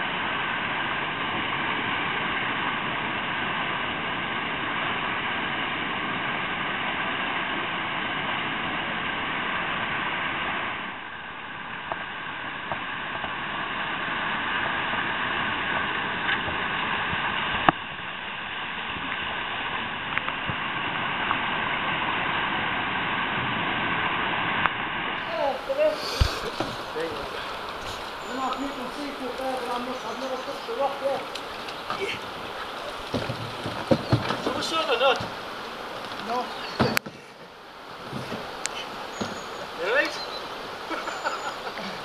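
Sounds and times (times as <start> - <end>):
river rapids rushing over boulders: 0.0 - 42.0.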